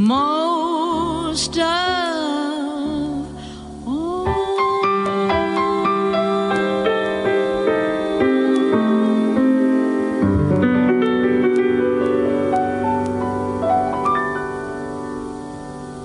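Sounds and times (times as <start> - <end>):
solo piano chords: 0.0 - 16.0.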